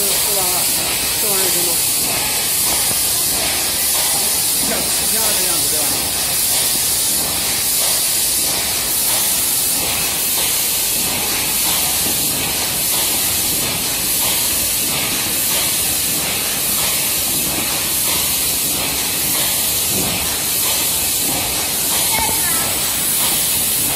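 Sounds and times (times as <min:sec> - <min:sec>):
labeling machine hissing with pulse: 0:00.0 - 0:23.9.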